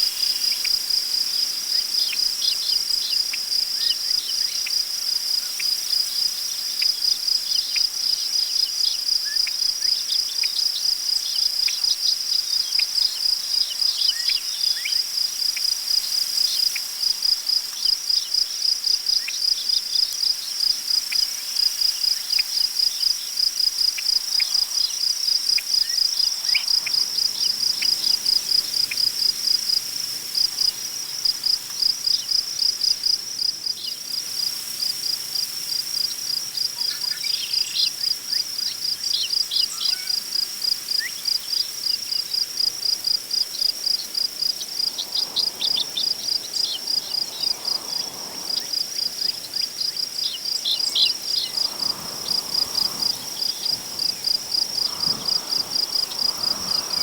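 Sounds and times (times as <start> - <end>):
crickets chirping: 0.0 - 57.0
faint wind rustle: 0.0 - 57.0.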